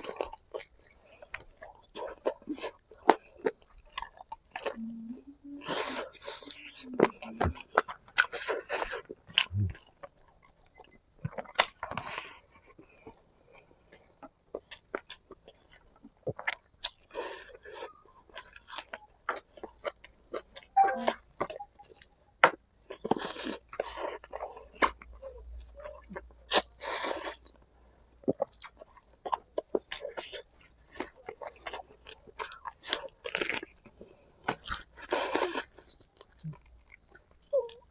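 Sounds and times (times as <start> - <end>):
close chewing and mouth smacks: 0.0 - 20.8, 21.4 - 37.9.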